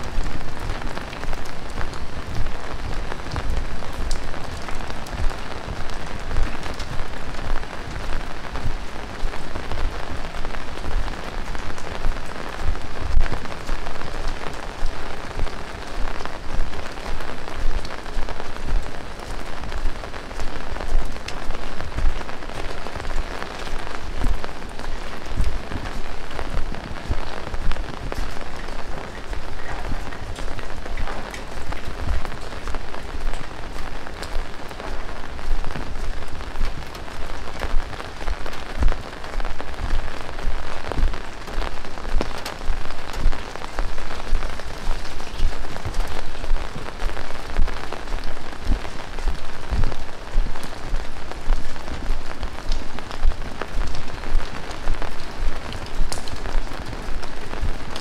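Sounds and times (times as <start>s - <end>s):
heavy rain falling: 0.0s - 58.0s
sharp raindrop hits: 0.0s - 58.0s.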